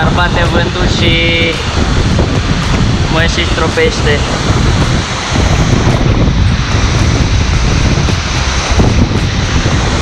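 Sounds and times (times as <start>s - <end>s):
waterfall rushing: 0.0s - 10.0s
wind buffeting microphone: 0.0s - 10.0s.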